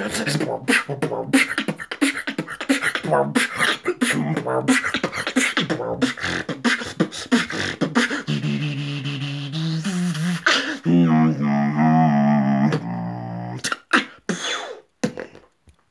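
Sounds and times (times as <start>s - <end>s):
wavering pitched vocal line: 0.0s - 14.1s.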